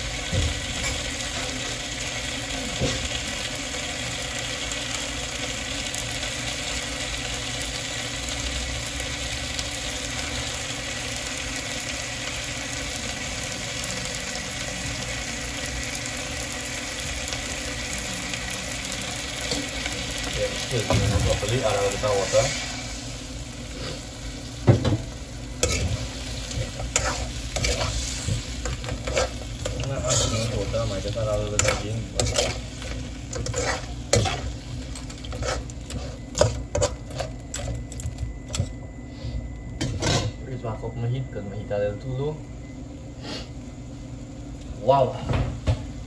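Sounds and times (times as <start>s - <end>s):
food crackling sizzle in wok: 0.0s - 38.9s.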